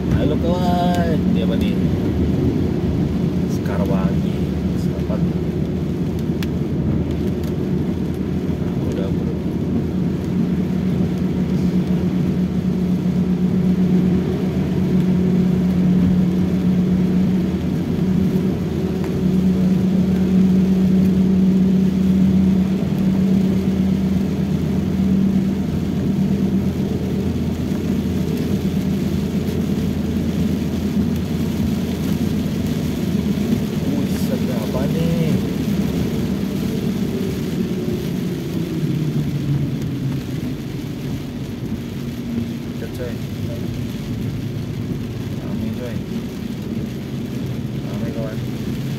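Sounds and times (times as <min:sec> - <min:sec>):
car engine drone: 0:00.0 - 0:48.9
tyre noise on wet road: 0:00.0 - 0:48.9.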